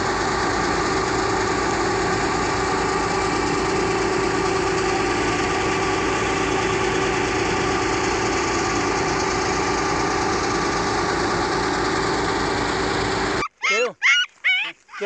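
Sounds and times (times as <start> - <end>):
fire truck engine humming: 0.0 - 13.6.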